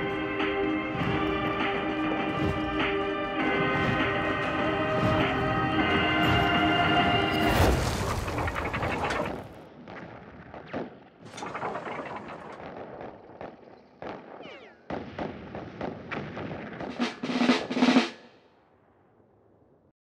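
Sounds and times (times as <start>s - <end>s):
gunfire and artillery: 0.0s - 18.5s.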